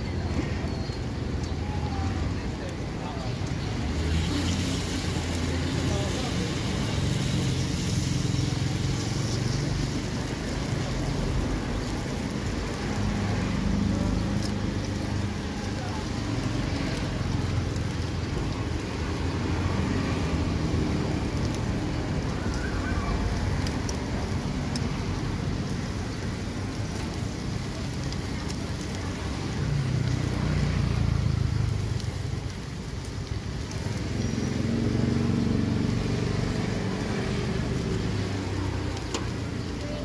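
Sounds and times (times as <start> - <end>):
low traffic rumble: 0.0 - 40.0
batter sizzling in a pan: 0.1 - 40.0.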